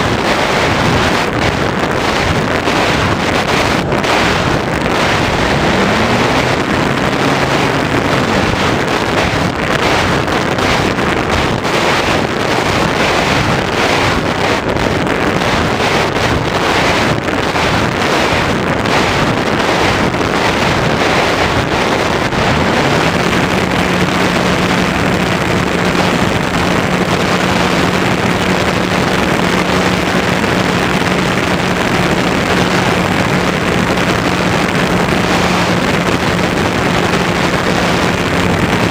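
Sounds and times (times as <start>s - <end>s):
faint motor and propeller hum: 0.0s - 38.9s
wind rushing over microphone: 0.0s - 38.9s.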